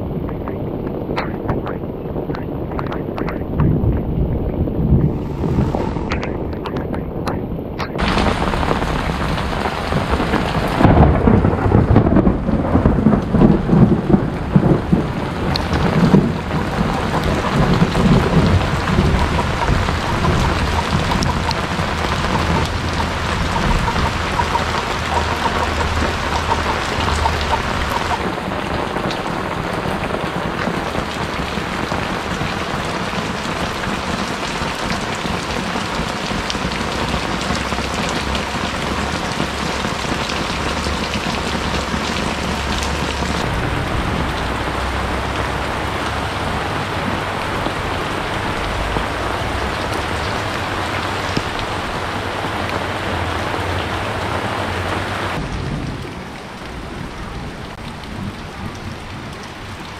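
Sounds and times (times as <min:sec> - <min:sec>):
heavy rain falling: 0:00.0 - 0:59.9
thunder rumbling: 0:00.0 - 0:59.9.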